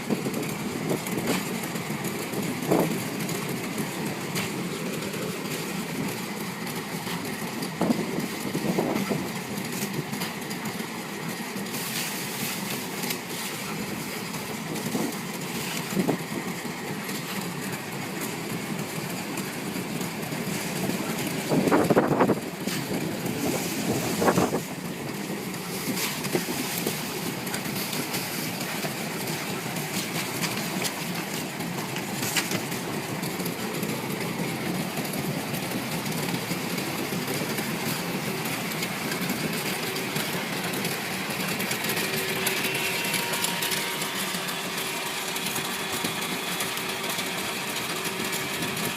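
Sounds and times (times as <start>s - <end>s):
washing machine running: 0.0s - 48.9s.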